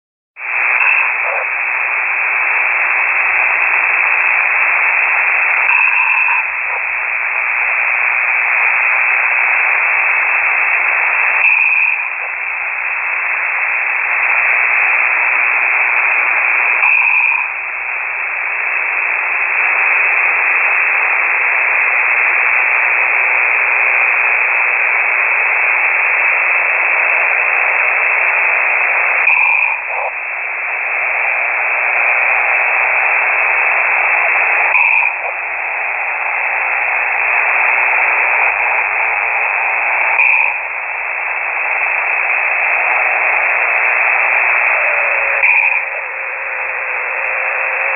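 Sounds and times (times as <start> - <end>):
radio hiss and static: 0.4 - 47.9.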